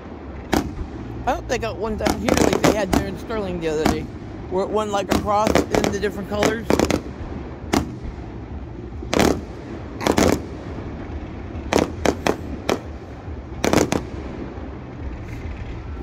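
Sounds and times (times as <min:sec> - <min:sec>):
fireworks bursting with sharp bangs: 0:00.0 - 0:16.0.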